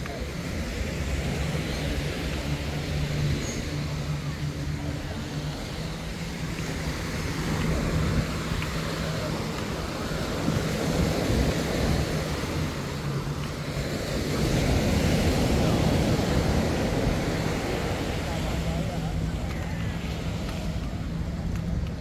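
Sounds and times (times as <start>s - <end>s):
small waves washing on sand: 0.0s - 22.0s
wind buffeting microphone: 0.0s - 22.0s.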